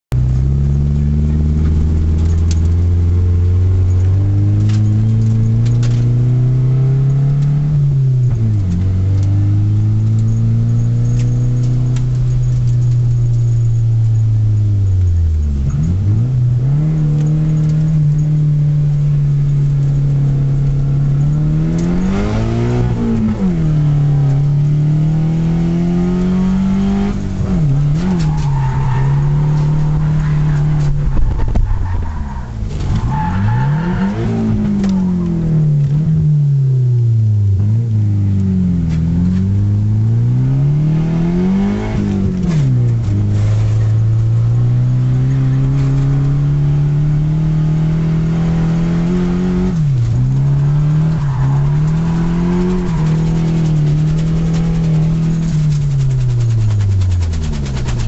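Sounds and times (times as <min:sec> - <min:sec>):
car engine revving: 0:00.1 - 0:58.0.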